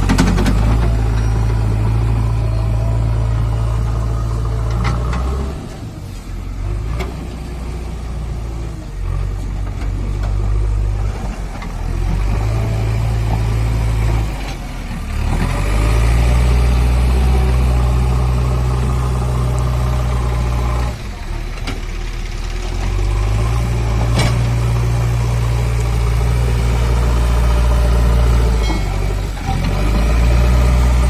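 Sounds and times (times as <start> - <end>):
diesel engine under load: 0.0 - 31.0.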